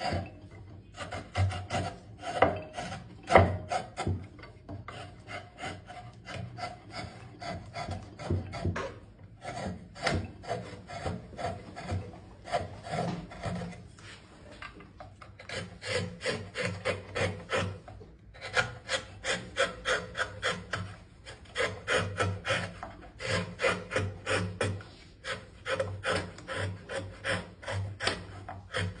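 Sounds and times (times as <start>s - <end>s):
hand tool rasping across wood: 0.0s - 29.0s.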